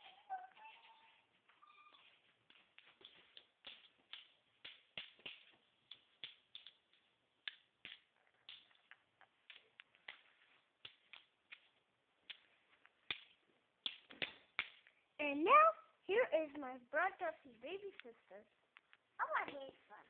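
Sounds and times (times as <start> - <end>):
faint clicks and taps: 0.5 - 15.0, 17.8 - 19.8.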